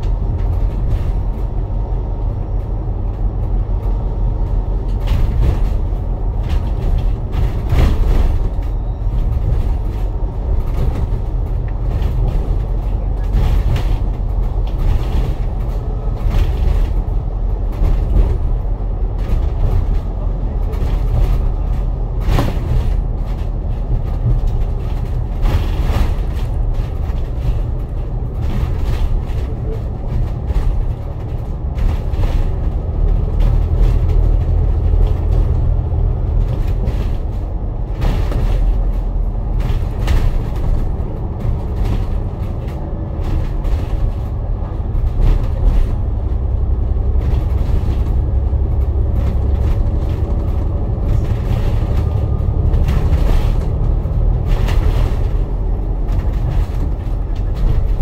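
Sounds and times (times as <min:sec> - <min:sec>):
bus engine and road rumble: 0:00.0 - 0:58.0
short rattles and knocks: 0:00.0 - 0:58.0.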